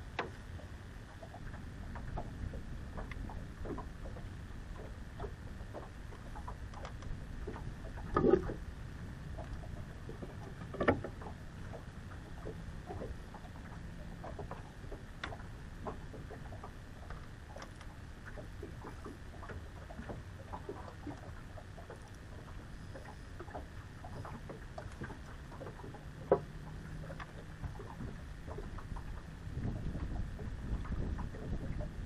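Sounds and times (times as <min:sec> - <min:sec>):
low steady rumble: 0:00.0 - 0:32.0
small waves lapping against boat hull: 0:00.0 - 0:32.0.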